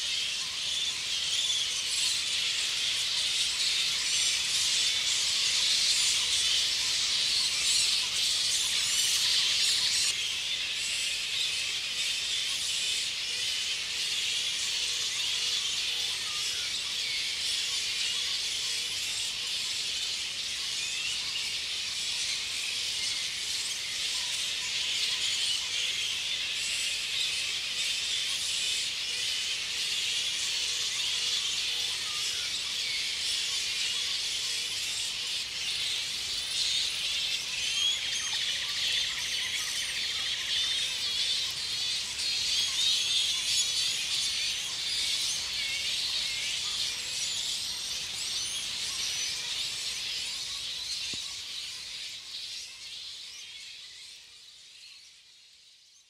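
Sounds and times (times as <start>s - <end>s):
flying foxes chattering and squealing: 0.0s - 54.8s.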